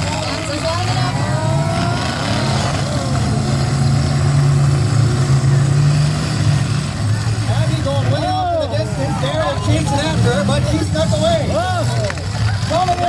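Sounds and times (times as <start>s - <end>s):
car engines running loud: 0.0s - 13.0s.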